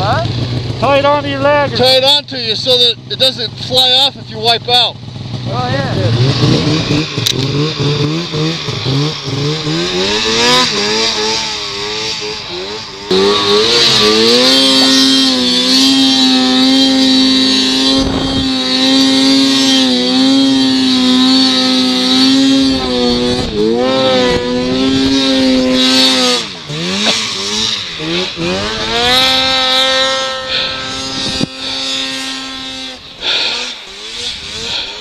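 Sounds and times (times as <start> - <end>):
engine running at high revs: 0.0 - 35.0.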